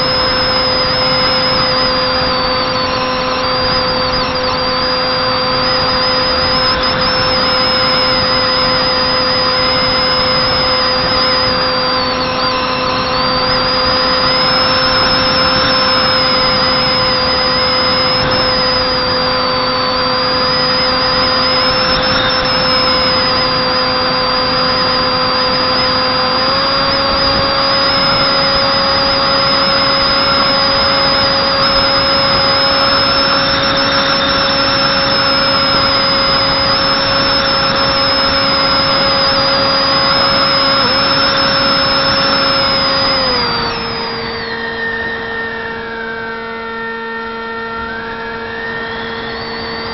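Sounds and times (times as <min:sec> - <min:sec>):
electric motor whine: 0:00.0 - 0:49.9
thin wavering high-pitched tone: 0:00.0 - 0:49.9.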